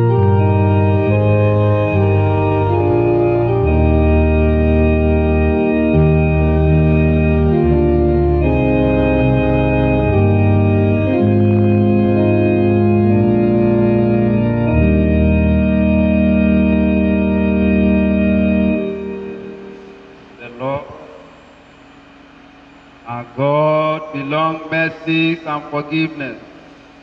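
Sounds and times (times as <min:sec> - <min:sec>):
organ playing slow chords: 0:00.0 - 0:27.0.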